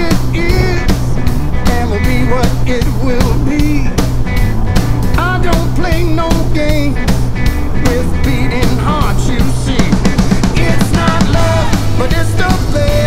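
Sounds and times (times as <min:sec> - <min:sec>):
rock and roll song with singing: 0:00.0 - 0:13.0.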